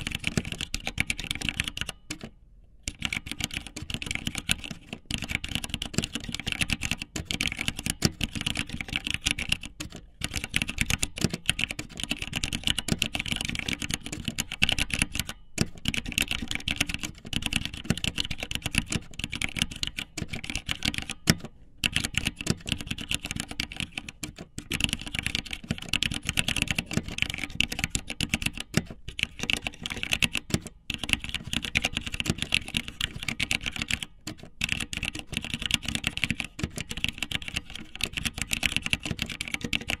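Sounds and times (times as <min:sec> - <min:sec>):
keyboard typing clicks: 0:00.0 - 0:02.3, 0:02.9 - 0:40.0.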